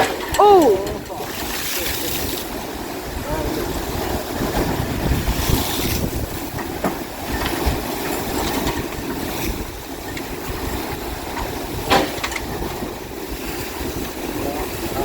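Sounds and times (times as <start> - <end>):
rough waves washing: 0.0 - 15.0
wind buffeting microphone: 0.0 - 15.0.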